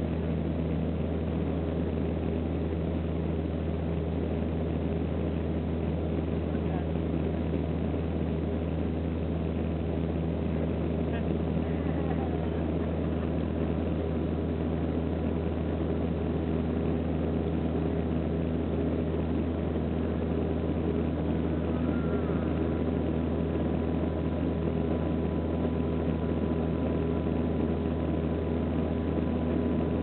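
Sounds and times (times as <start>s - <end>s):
turboprop engines droning in cabin: 0.0s - 30.0s.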